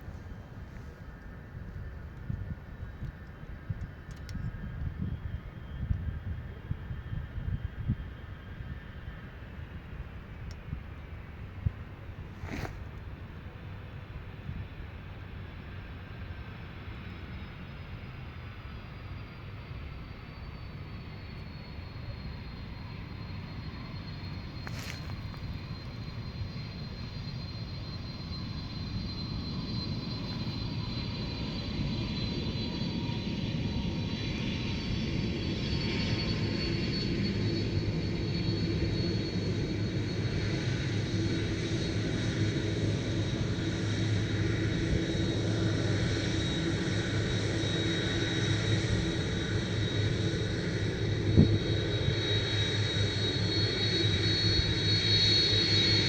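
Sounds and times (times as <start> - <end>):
jet airliner engines: 0.0 - 56.0.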